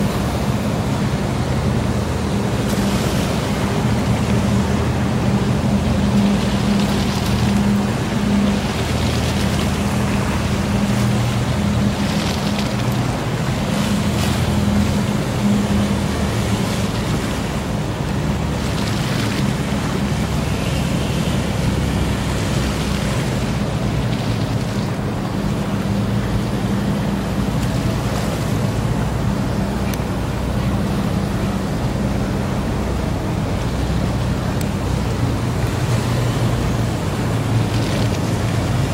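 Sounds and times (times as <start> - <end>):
boat engines running: 0.0 - 38.9
rushing water wake: 0.0 - 38.9.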